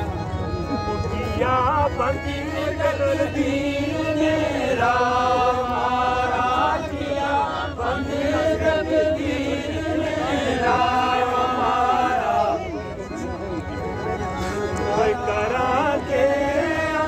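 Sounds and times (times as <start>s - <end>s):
men singing: 1.3s - 12.8s, 14.8s - 17.0s.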